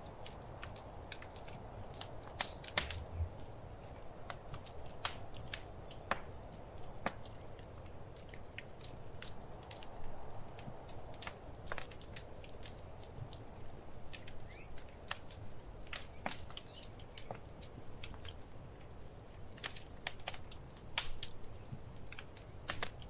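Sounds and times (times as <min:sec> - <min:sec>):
soft steady hiss: 0:00.0 - 0:23.0
wood fire crackling: 0:00.0 - 0:23.0.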